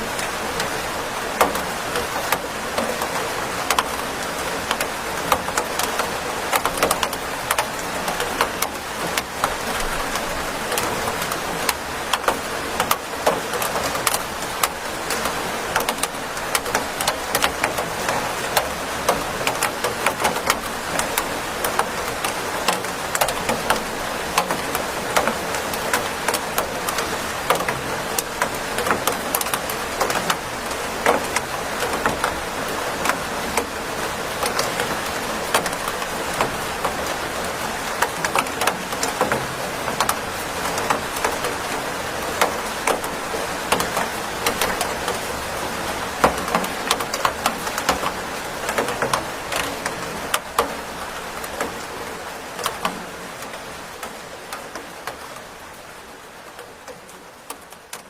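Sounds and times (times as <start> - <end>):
raindrops pattering on hard surface: 0.0 - 58.0
steady rain falling: 0.0 - 58.0.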